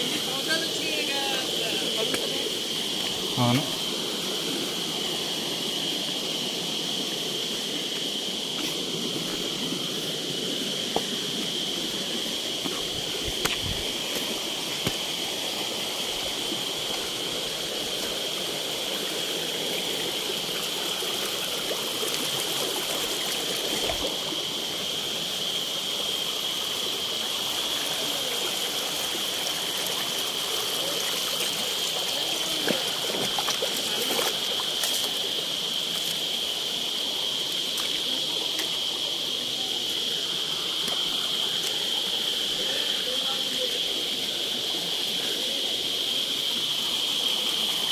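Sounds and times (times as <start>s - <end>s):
stream trickling over rocks: 0.0s - 47.9s.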